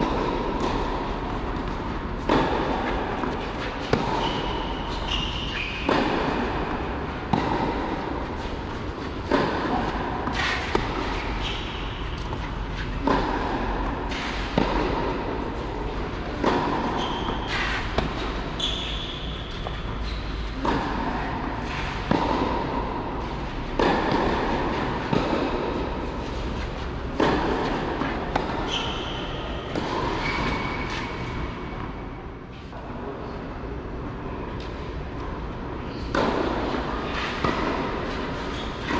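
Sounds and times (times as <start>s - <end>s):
rackets hitting tennis ball: 0.0s - 32.0s, 34.5s - 38.9s.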